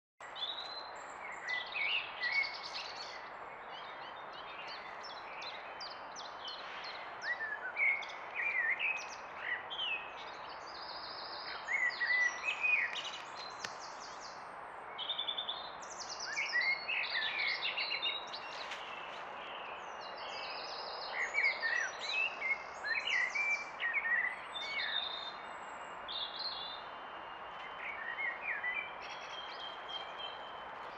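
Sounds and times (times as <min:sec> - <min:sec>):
songbirds singing: 0:00.2 - 0:30.9.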